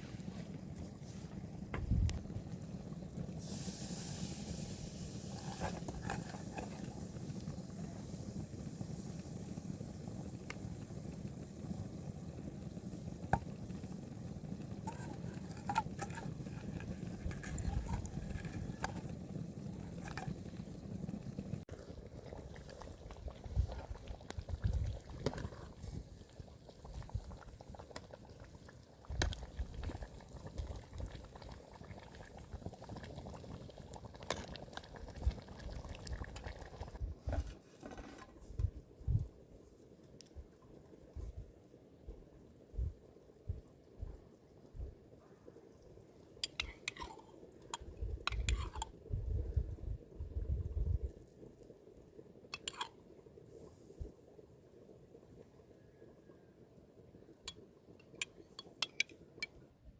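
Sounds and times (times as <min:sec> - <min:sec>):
liquid bubbling in a pot: 0:00.0 - 0:59.9.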